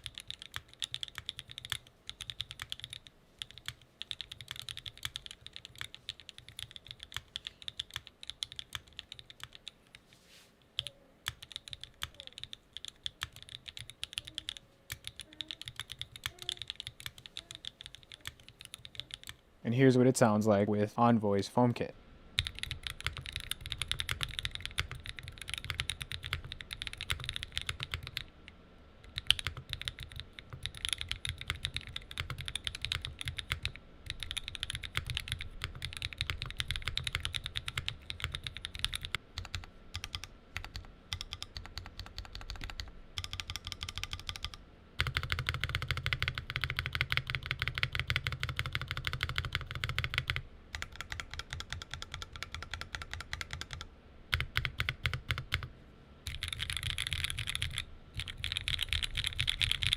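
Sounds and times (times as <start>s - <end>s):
mechanical keyboard typing: 0.0s - 9.9s, 10.8s - 19.4s, 22.4s - 28.3s, 29.1s - 55.7s, 56.3s - 59.9s.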